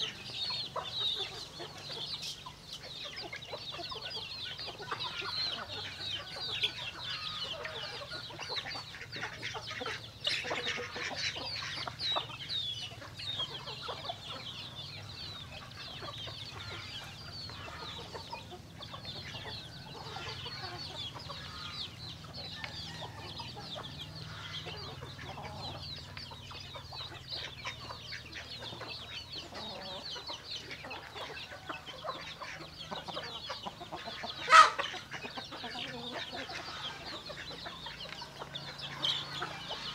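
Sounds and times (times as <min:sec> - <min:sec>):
chickens calling: 0:00.0 - 0:39.9.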